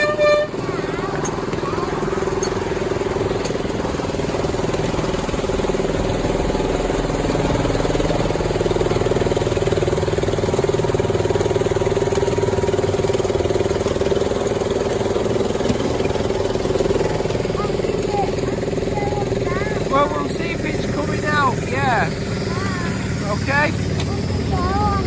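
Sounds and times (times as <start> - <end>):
locomotive engine humming: 0.0 - 25.0.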